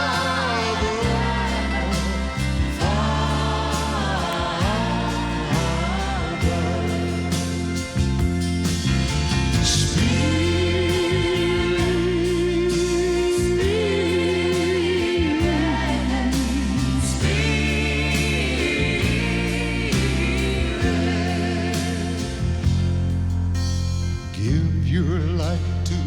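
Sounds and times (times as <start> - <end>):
person singing gospel song: 0.0 - 8.1, 9.6 - 22.8
sustained accompaniment: 0.0 - 23.3.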